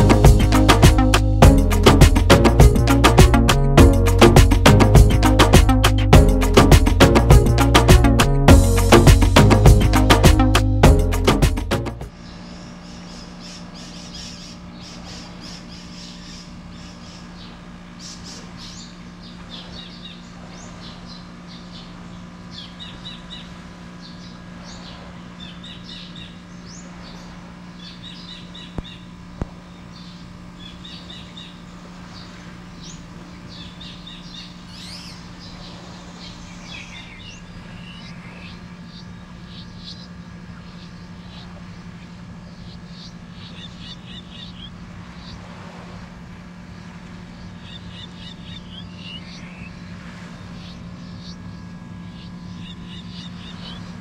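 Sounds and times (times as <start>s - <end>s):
birds chirping: 0.0s - 54.0s
steady low hum: 0.0s - 54.0s.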